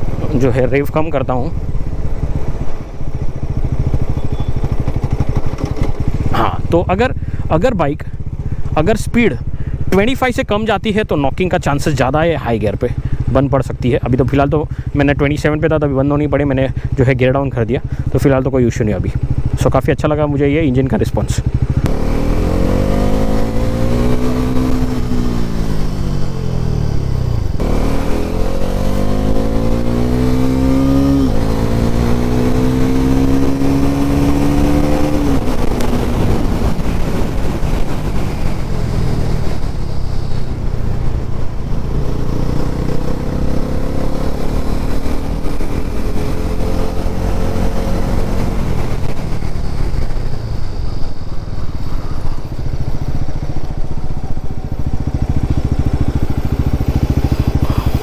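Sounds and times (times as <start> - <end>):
motorcycle engine revving: 0.0 - 10.2, 11.3 - 58.0
gear changes: 0.0 - 58.0.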